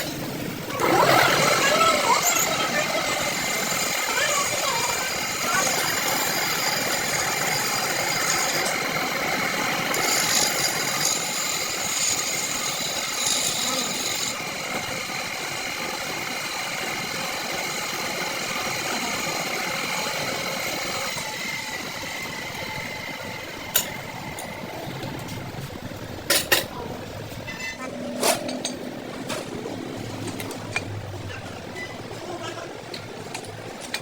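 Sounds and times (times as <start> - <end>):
workshop machine whining and humming: 0.0 - 34.0.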